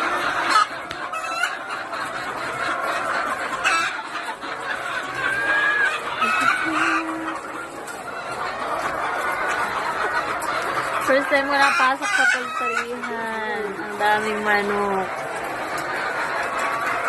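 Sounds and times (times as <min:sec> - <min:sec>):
chicken squawks: 0:00.0 - 0:17.0
chickens clucking: 0:00.0 - 0:17.0.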